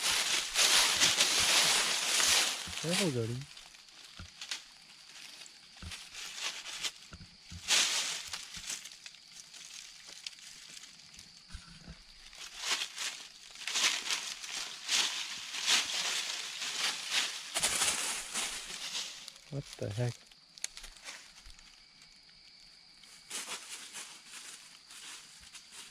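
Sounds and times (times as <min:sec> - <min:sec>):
dry leaves crunching underfoot: 0:00.0 - 0:11.4, 0:12.1 - 0:21.7, 0:23.2 - 0:25.9.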